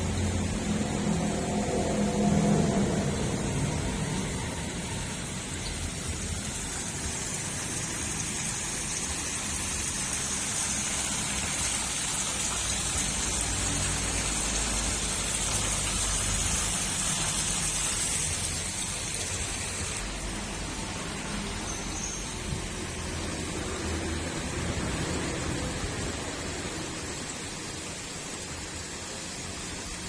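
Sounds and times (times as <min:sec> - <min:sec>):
waterfalls splashing into pond: 0:00.0 - 0:30.0.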